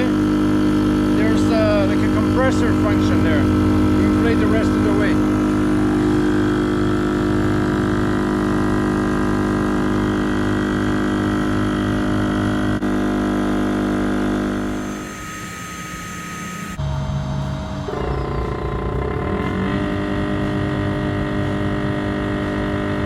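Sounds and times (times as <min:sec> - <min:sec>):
electric inflation pump whining: 0:00.0 - 0:23.0.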